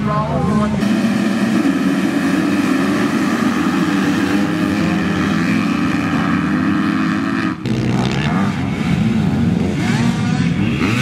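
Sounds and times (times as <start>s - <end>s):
dirt bike engines at high revs: 0.0s - 11.0s.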